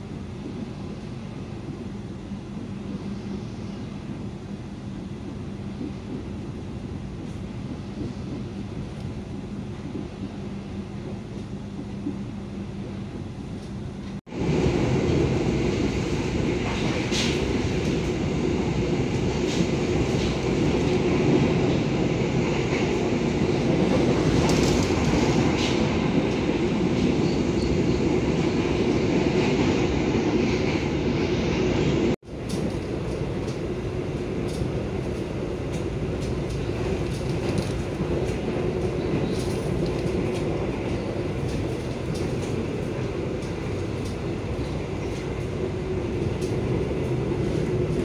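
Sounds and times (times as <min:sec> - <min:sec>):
train wheels on rails: 0:00.0 - 0:48.0.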